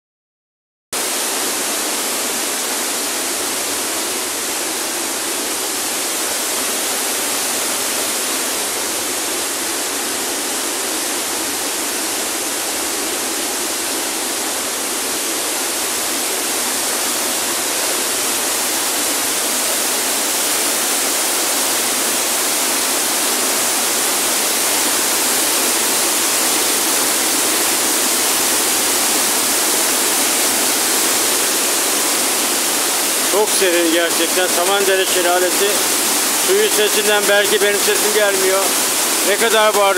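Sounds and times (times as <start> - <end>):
waterfall rushing: 1.0 - 39.9.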